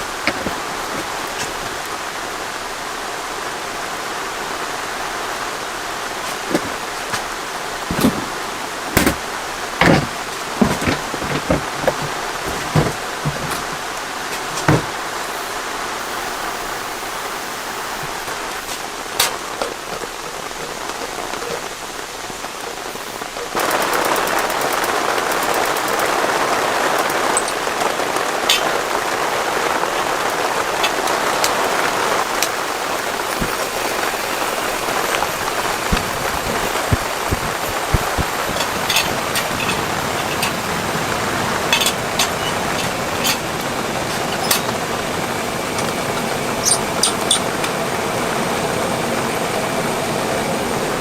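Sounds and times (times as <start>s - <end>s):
sharp raindrop impacts: 0.0s - 48.4s
steady rain falling: 0.0s - 51.0s.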